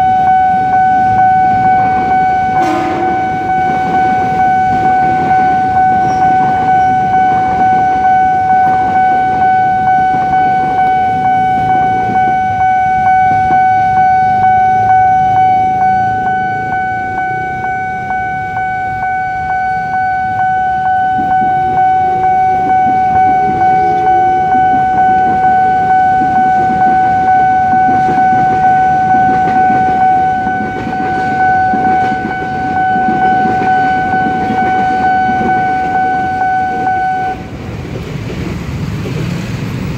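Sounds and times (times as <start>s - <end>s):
level-crossing warning bell: 0.0s - 38.8s
electric trains rumbling past: 0.0s - 39.9s.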